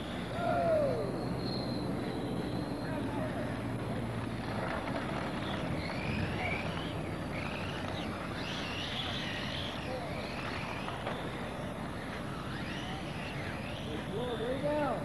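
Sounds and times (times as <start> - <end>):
model car motors whining: 0.0 - 15.0.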